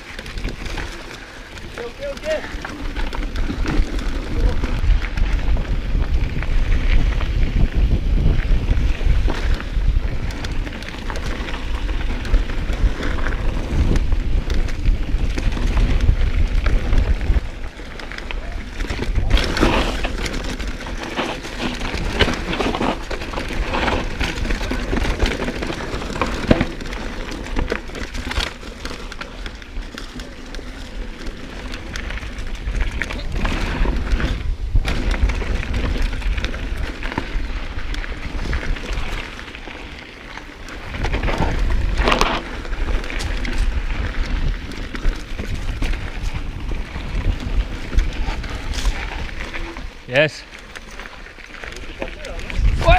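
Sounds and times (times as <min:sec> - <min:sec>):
wind buffeting microphone: 0:00.0 - 0:28.4, 0:30.7 - 0:50.1, 0:51.8 - 0:52.9
bike rattling and knocking: 0:00.0 - 0:52.9
tyres crunching over ground: 0:00.0 - 0:52.9.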